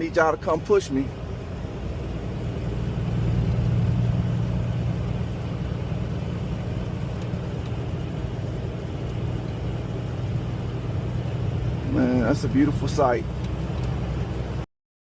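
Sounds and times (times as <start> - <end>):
truck diesel engine drone: 0.0 - 14.6
road noise: 0.0 - 14.7.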